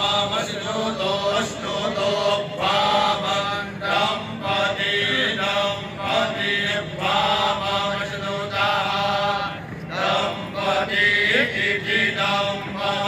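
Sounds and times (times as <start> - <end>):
men chanting together: 0.0 - 13.0.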